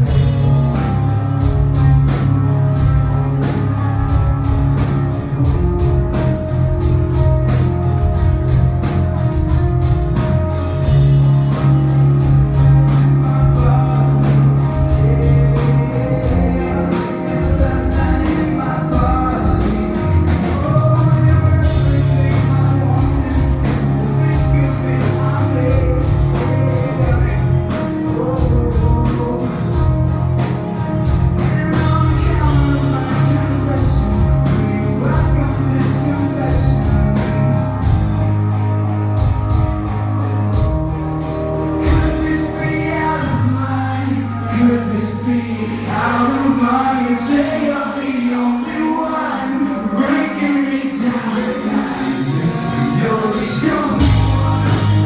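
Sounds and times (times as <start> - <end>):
drums keeping a steady beat: 0.0 - 55.0
guitars: 0.0 - 55.0
person singing: 4.1 - 38.2, 41.6 - 55.0.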